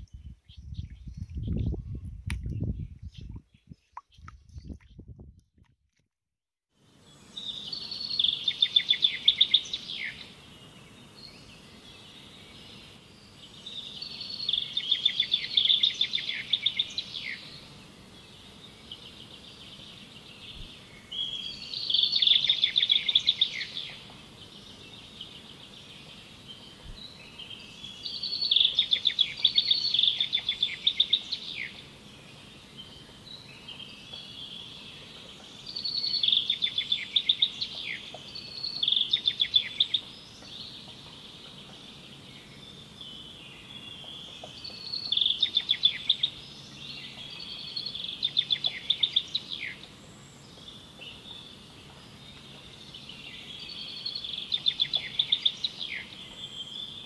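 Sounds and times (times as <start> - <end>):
songbird singing: 0.0 - 5.4, 6.8 - 57.0
faint background hiss: 6.8 - 57.0.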